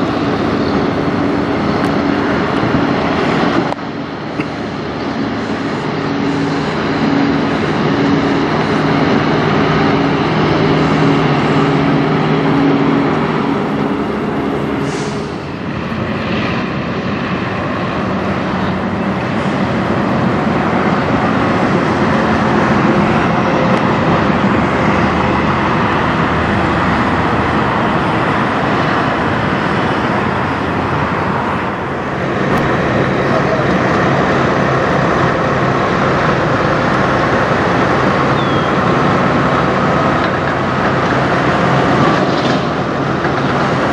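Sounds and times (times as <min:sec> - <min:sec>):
diesel truck engine running: 0:00.0 - 0:43.9
tyre and road noise: 0:00.0 - 0:43.9.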